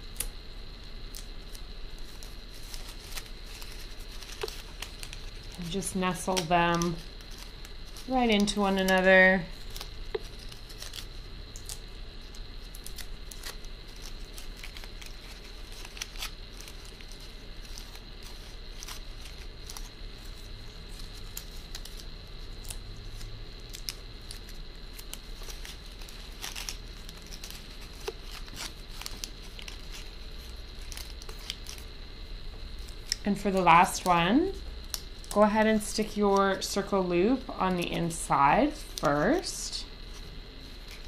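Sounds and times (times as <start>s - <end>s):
faint high whine: 0.0s - 41.0s
paper rustling and crinkling: 1.1s - 31.9s, 38.9s - 41.0s.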